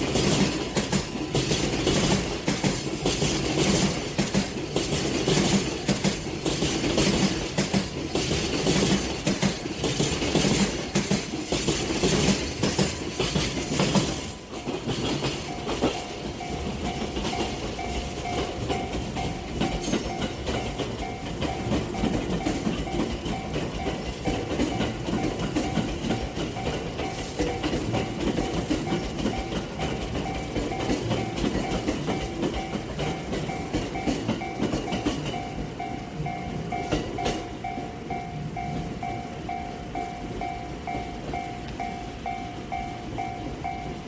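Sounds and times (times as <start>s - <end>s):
electric train running by: 0.0s - 44.0s
freight train wheels clacking: 0.0s - 44.0s.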